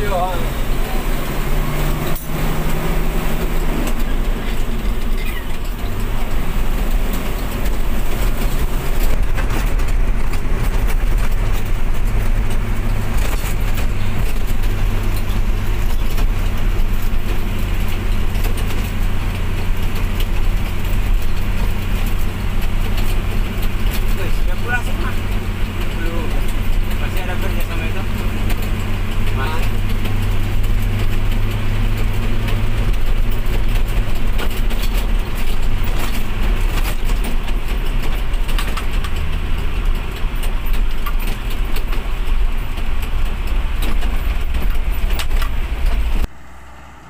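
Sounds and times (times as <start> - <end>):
truck knocking and rattling: 0.0 - 46.4
truck diesel engine drone: 0.0 - 47.0.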